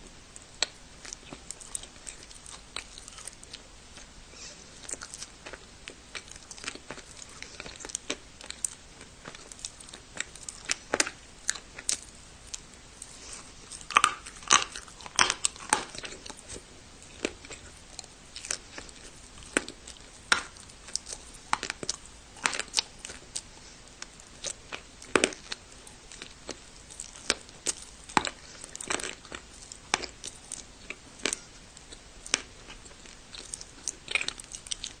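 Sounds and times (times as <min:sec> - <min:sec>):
chewing hard clay crunches: 0:04.8 - 0:35.0.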